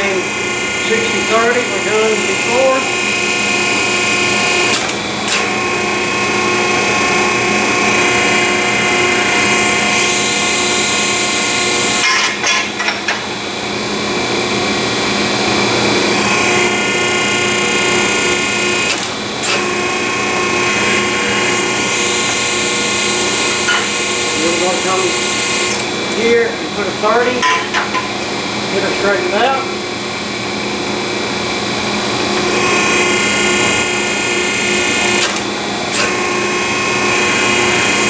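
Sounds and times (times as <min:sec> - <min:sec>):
hydraulic pump motor running: 0:00.0 - 0:38.0.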